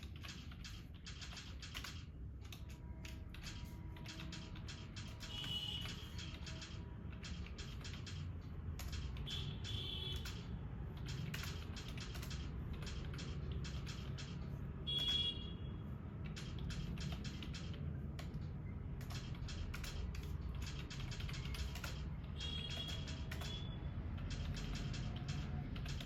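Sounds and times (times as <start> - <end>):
keyboard key clicks: 0.0 - 15.4, 16.1 - 26.0.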